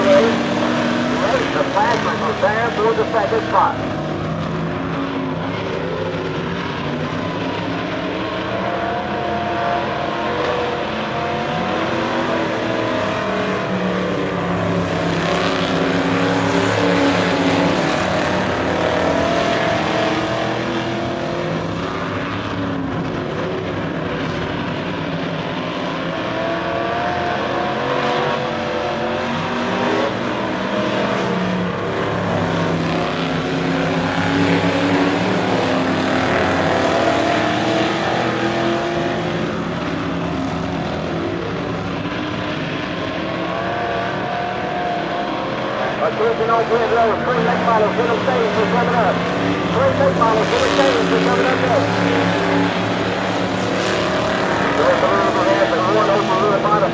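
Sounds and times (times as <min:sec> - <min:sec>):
stock car engines racing: 0:00.0 - 0:56.9.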